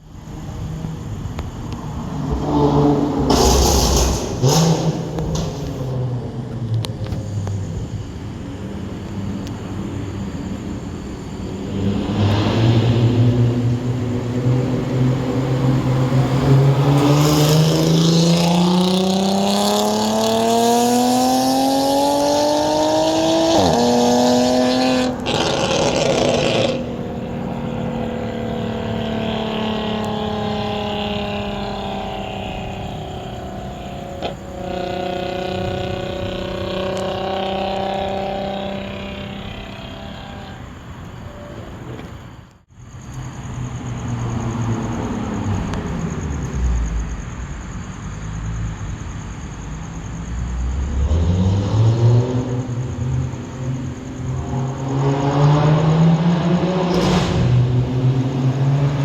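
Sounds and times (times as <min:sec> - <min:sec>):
car engine accelerating: 0:00.0 - 0:42.6, 0:49.6 - 0:59.0.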